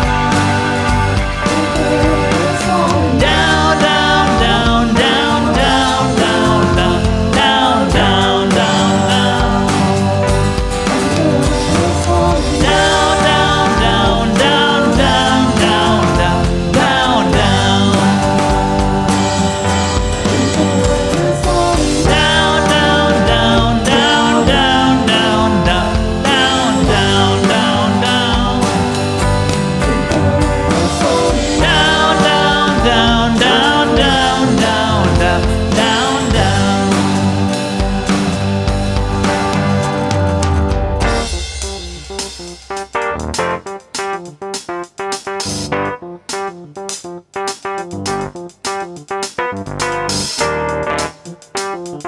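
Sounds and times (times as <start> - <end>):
band playing bass and drum groove: 0.0 - 52.0.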